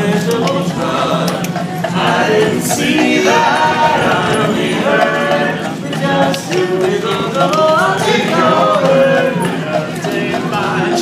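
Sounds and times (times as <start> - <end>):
men singing close harmony: 0.0 - 11.0.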